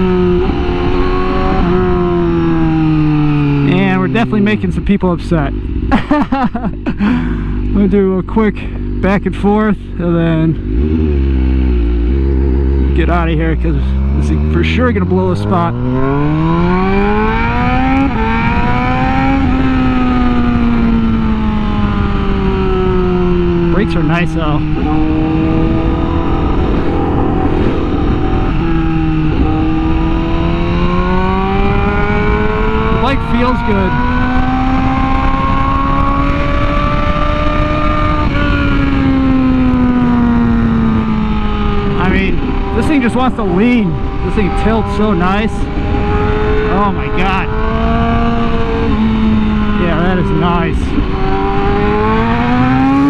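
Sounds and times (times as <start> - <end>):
low rush of wind: 0.0 - 53.0
motorcycle engine accelerating: 0.0 - 53.0.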